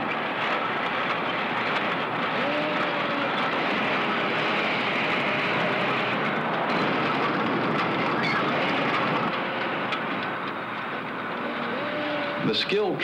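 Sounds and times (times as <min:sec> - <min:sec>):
assembly line machinery running: 0:00.0 - 0:13.0.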